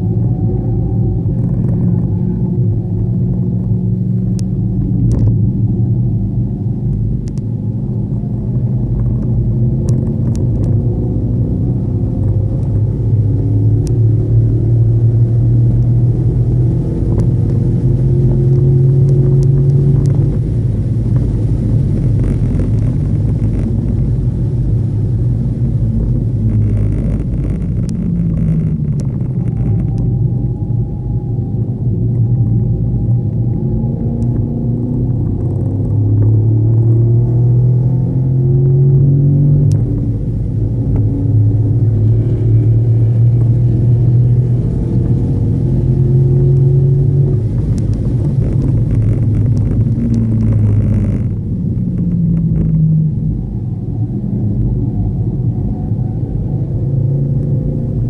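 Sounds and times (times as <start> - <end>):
car engine revving at speed: 0.0 - 58.0
heavy low rumble: 0.0 - 58.0.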